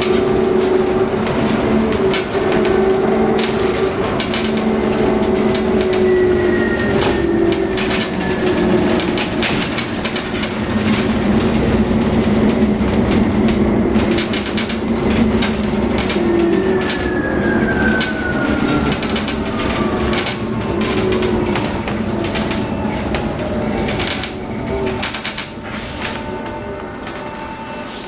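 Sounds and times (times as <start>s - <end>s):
road noise: 0.0s - 27.2s
electric bus drive hum: 0.0s - 28.0s
rattles and knocks from bus body: 0.0s - 28.0s.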